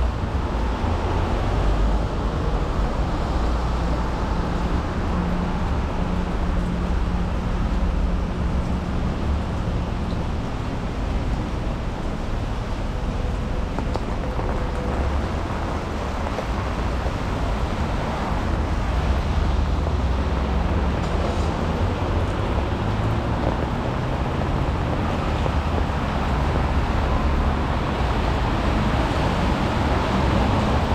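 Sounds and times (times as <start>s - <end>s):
passing car engines rumbling: 0.0s - 30.9s.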